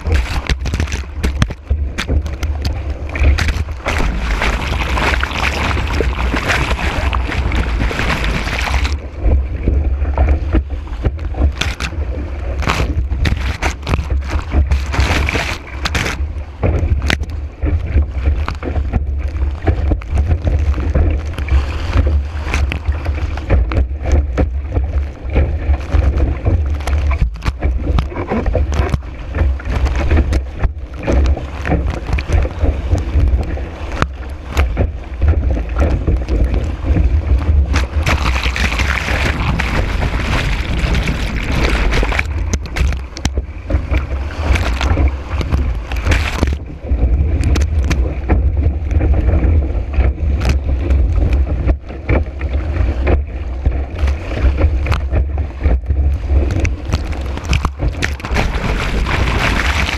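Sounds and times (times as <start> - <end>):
water slapping against board: 0.0 - 59.9.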